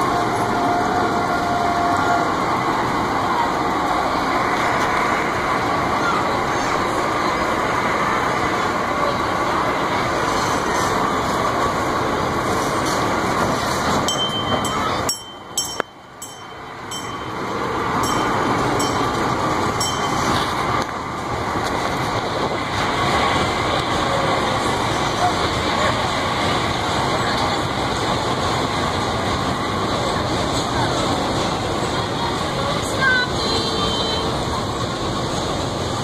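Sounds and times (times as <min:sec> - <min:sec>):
ride mechanical rumble: 0:00.0 - 0:36.0.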